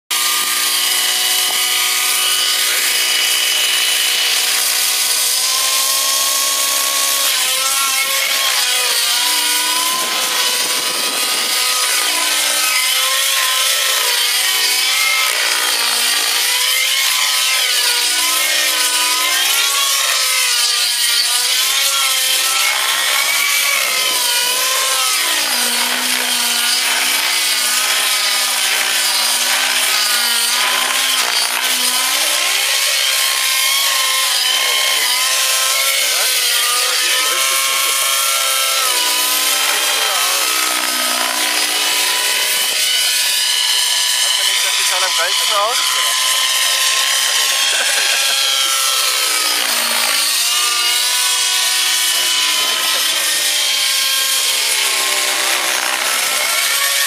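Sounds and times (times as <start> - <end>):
model helicopter engine whining: 0.2 - 57.0.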